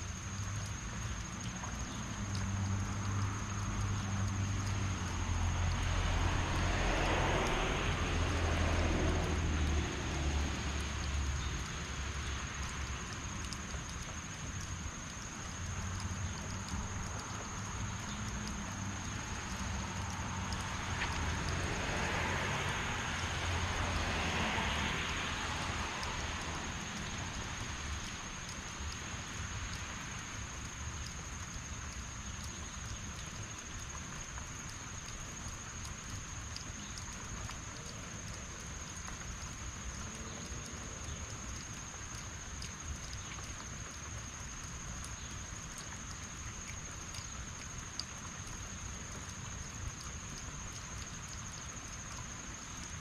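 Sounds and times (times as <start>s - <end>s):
tyre hiss on wet road: 0.0s - 53.0s
heavy rain falling: 2.0s - 53.0s.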